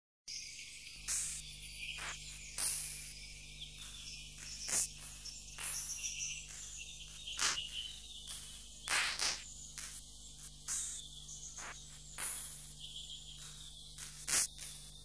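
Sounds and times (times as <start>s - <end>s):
crickets chirring: 0.3s - 15.0s.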